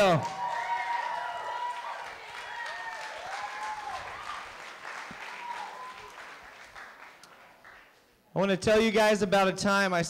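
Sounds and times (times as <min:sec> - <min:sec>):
audience clapping: 0:00.0 - 0:08.2.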